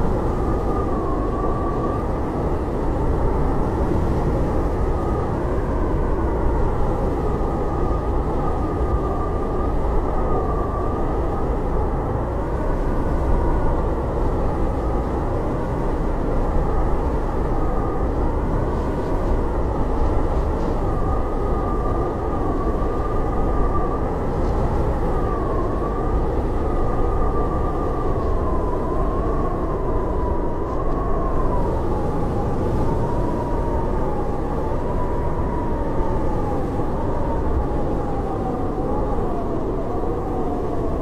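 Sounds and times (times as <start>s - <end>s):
howling blizzard wind: 0.0s - 41.0s.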